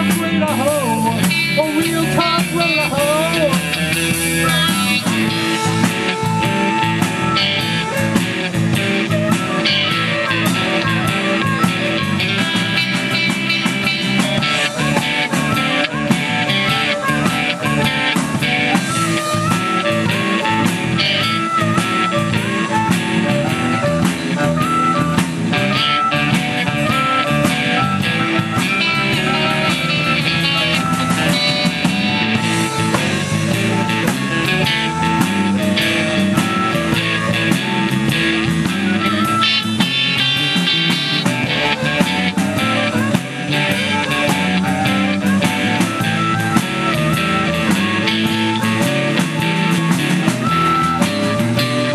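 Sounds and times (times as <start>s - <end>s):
bass guitar: 0.0s - 51.9s
drum kit: 0.0s - 51.9s
electric guitar: 0.0s - 51.9s
harmonica lead: 0.0s - 51.9s.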